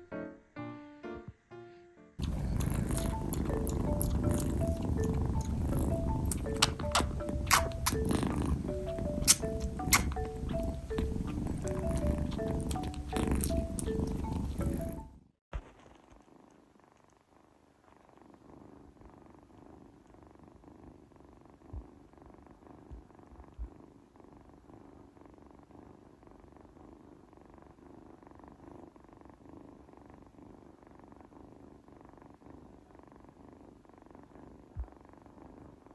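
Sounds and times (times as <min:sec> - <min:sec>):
cat purring: 0:02.2 - 0:35.9.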